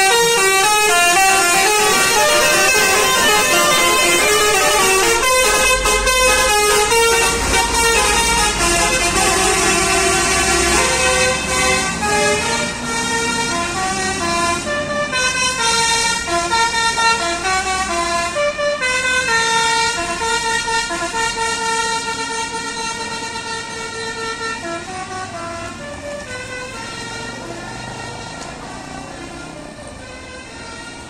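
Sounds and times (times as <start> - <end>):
bus engine rumbling: 0.0 - 31.0
bus horn playing a tune: 0.0 - 31.0.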